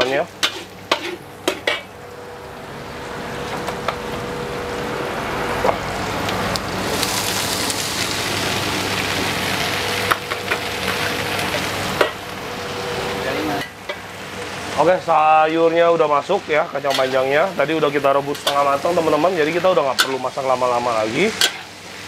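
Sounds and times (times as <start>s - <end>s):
beans sizzling in hot wok: 0.0s - 22.0s.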